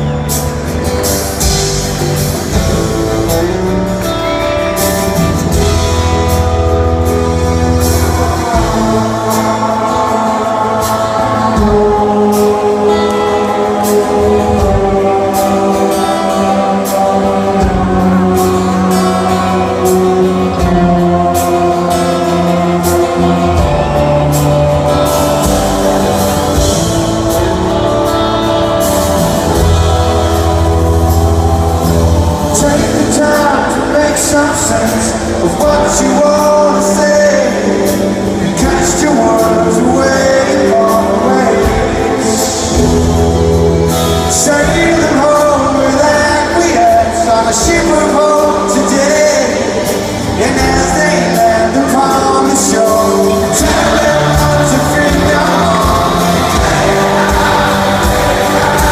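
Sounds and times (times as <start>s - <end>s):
live rock band: 0.0s - 58.9s
person singing: 0.0s - 58.9s.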